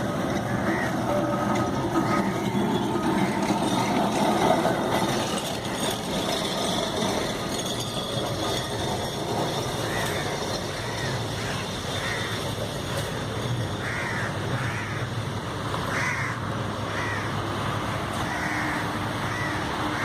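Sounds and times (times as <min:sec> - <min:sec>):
electric tram running on track: 0:00.0 - 0:20.0.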